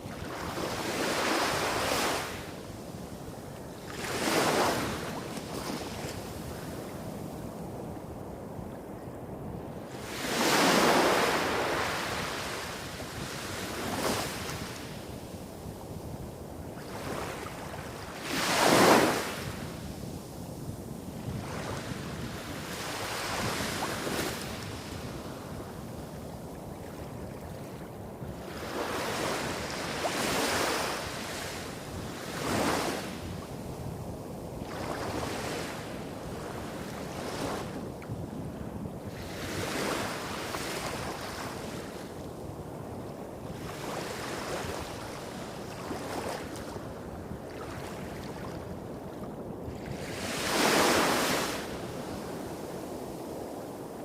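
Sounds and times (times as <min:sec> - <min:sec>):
small waves breaking on beach: 0:00.0 - 0:07.7, 0:09.9 - 0:15.8, 0:16.7 - 0:38.2, 0:42.8 - 0:54.0.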